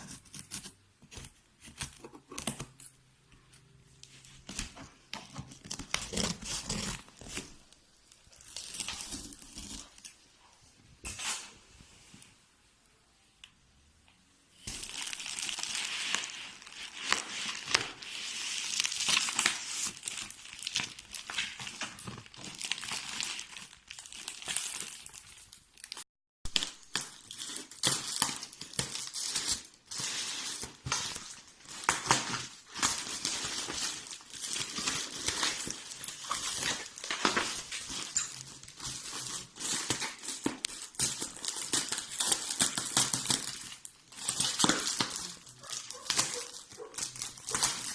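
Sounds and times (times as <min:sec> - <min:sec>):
wrapping material crinkling: 0:03.6 - 0:10.2, 0:14.6 - 0:47.9.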